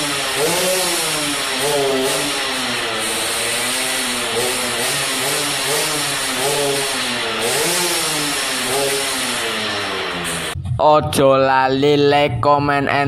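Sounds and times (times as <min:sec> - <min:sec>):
two-stroke engine revving: 0:00.0 - 0:10.6.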